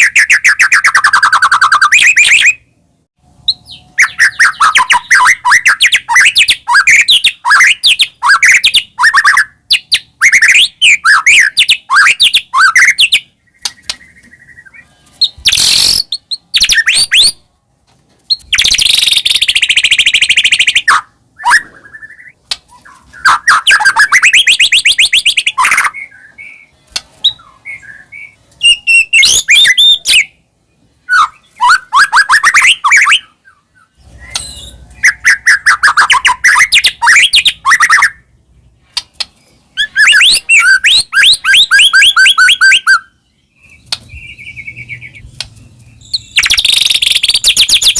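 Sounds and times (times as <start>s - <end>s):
bird singing whistles and chirps: 0.0s - 2.7s, 3.4s - 17.4s, 18.3s - 38.3s, 39.7s - 47.9s.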